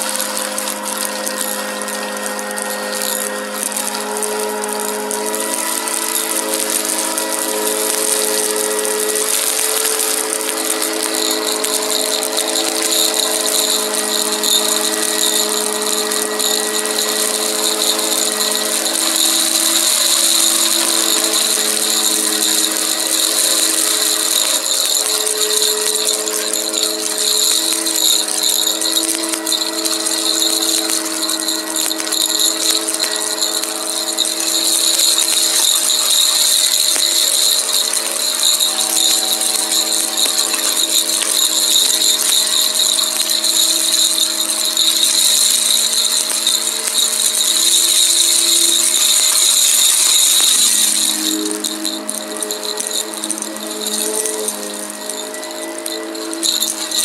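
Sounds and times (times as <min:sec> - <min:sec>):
debris crackling into vacuum: 0:00.0 - 0:57.0
vacuum cleaner motor whining: 0:00.0 - 0:57.0.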